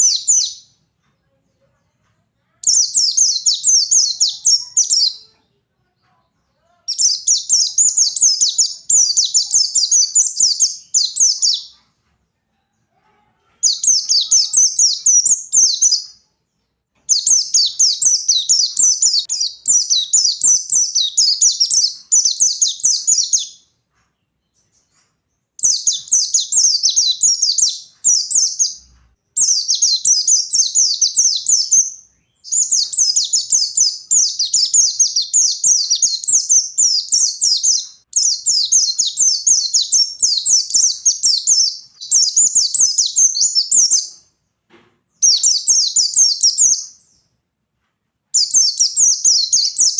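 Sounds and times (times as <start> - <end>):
bird twittering song: 0.0 - 0.9, 2.6 - 5.4, 6.6 - 11.9, 13.6 - 44.3, 45.2 - 47.4, 48.4 - 49.9.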